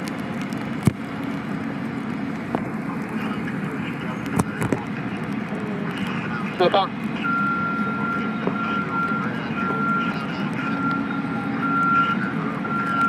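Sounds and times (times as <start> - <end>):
engine hum: 0.0 - 13.0
faint voices: 1.9 - 13.0.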